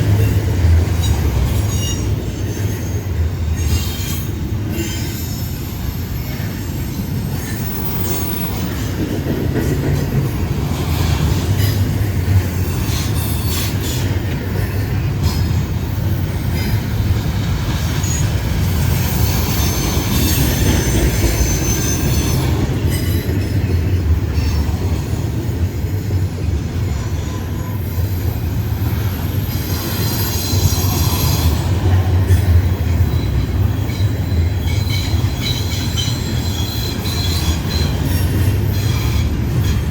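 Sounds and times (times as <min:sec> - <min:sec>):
freight train rumble: 0:00.0 - 0:39.9
steel wheels squealing: 0:00.2 - 0:09.0, 0:10.1 - 0:23.7, 0:26.8 - 0:39.9.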